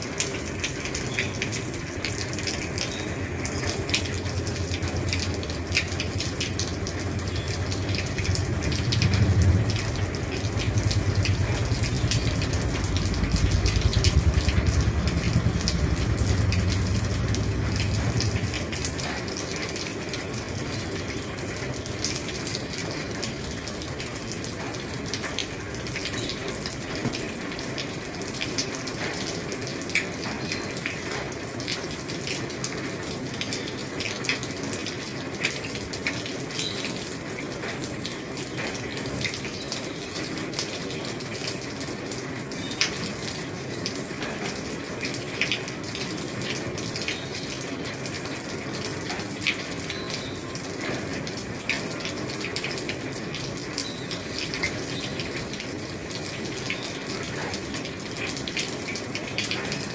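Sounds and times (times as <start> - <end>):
heavy rain on a roof: 0.0 - 59.9
raindrop ticks: 0.1 - 59.9.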